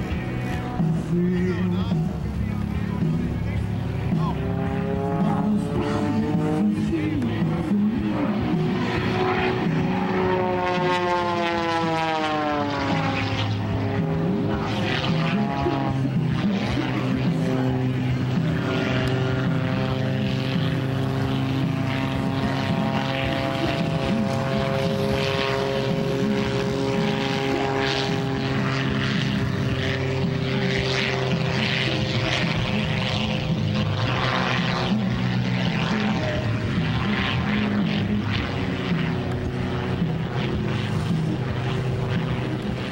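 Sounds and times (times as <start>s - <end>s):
biplane engine and propeller: 0.0s - 42.9s.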